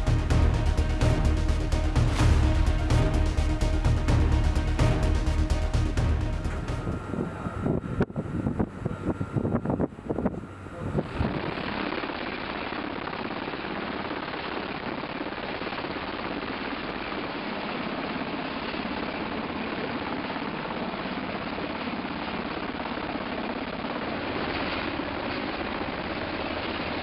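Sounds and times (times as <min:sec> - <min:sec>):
helicopter engine and rotors: 0:00.0 - 0:27.0.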